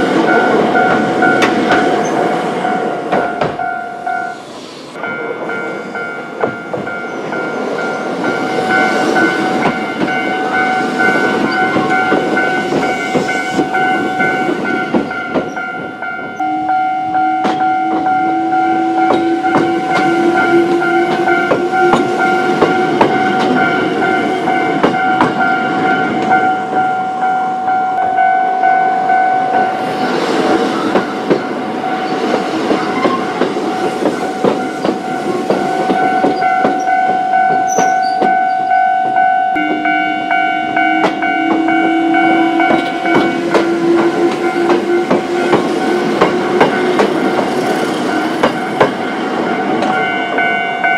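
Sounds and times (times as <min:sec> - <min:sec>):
wheels clacking on rail joints: 0:00.0 - 0:28.2, 0:29.5 - 0:50.9
level crossing alarm ringing: 0:00.0 - 0:30.2, 0:32.8 - 0:50.9
continuous train rumble: 0:00.0 - 0:50.9.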